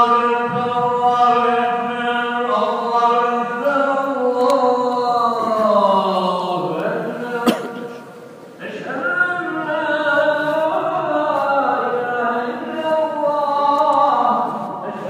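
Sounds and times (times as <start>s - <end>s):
man chanting slowly: 0.0s - 15.0s.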